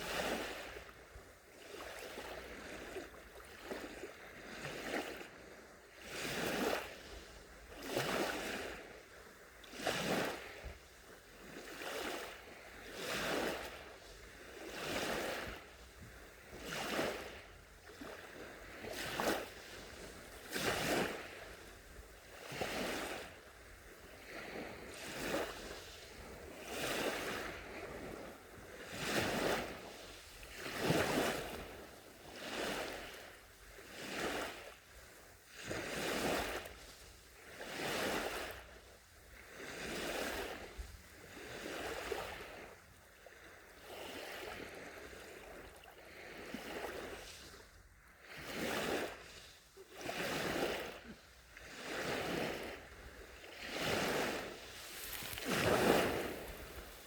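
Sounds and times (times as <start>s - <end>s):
small waves lapping on beach: 0.0s - 57.0s.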